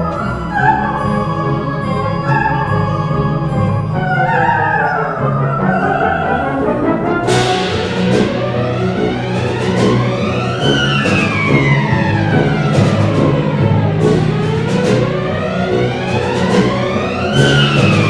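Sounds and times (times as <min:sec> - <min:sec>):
orchestra playing: 0:00.0 - 0:18.0.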